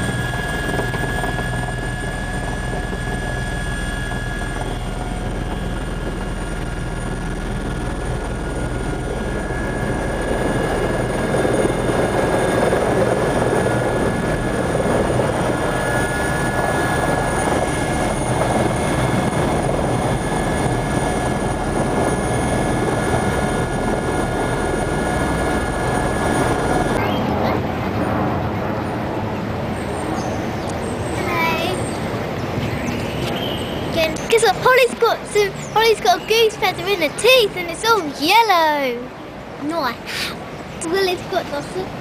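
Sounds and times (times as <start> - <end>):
helicopter engine and rotor noise: 0.0 - 42.0
high whine: 0.0 - 42.0.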